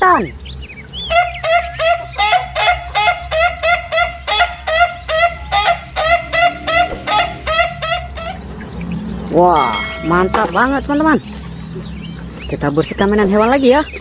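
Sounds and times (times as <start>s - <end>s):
roosters squawking: 0.0s - 14.0s.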